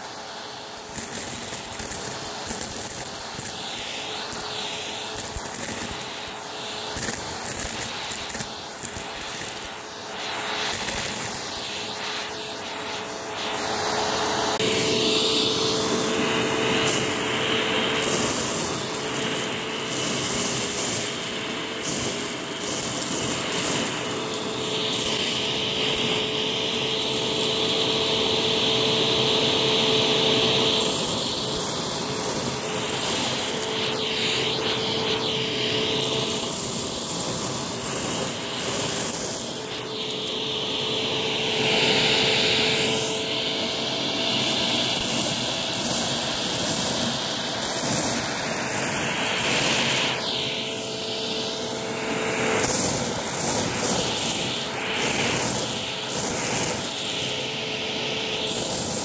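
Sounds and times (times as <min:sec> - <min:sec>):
vacuum cleaner motor whine: 0:00.0 - 0:59.0
vacuum sucking up crumbs: 0:00.0 - 0:59.0.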